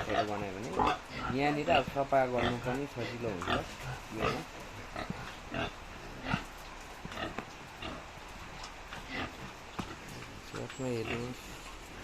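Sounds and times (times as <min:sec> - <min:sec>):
pigs grunting: 0:00.0 - 0:12.0.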